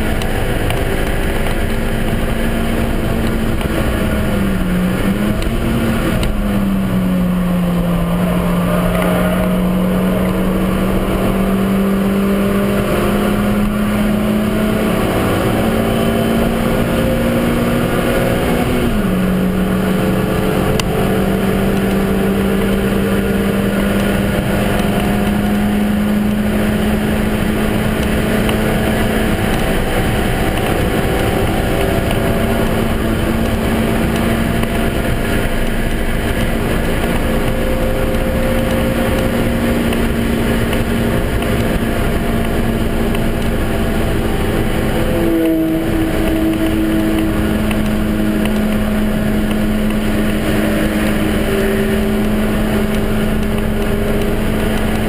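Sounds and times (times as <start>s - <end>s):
car engine revving high: 0.0s - 55.0s
road and wind noise: 0.0s - 55.0s.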